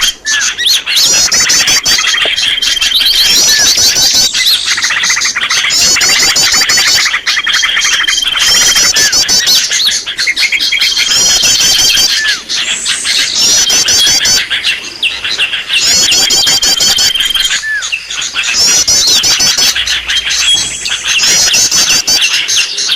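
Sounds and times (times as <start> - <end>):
high bird whistle: 0.0 - 15.2, 15.8 - 22.9
songbird trills and chirps: 0.0 - 22.9.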